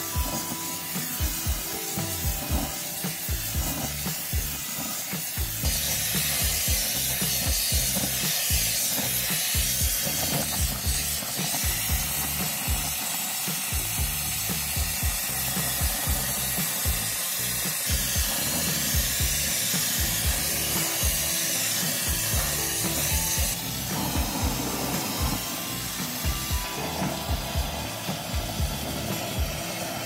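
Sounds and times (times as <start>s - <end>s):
background music with low beat: 0.0s - 30.0s
torch flame hissing: 0.0s - 30.0s.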